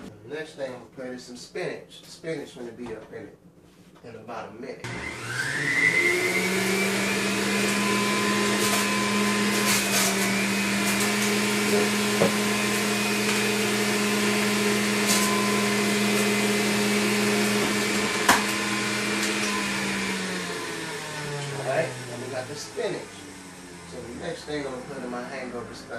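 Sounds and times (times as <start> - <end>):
juicer motor whining: 4.9 - 25.9.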